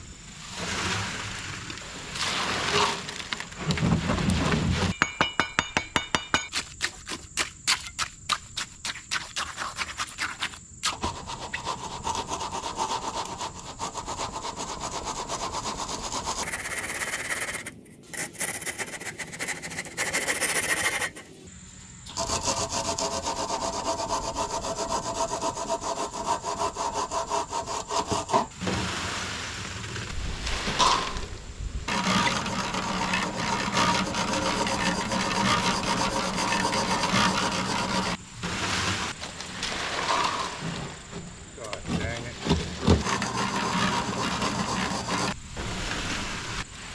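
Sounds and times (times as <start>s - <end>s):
board scraping wet concrete: 0.4s - 5.0s, 6.4s - 21.5s, 22.2s - 46.9s.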